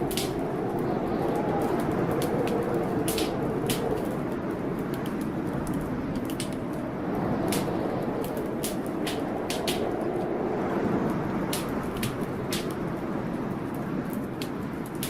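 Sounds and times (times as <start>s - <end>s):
blizzard wind blowing: 0.0s - 15.0s
fireplace crackling: 0.0s - 15.0s.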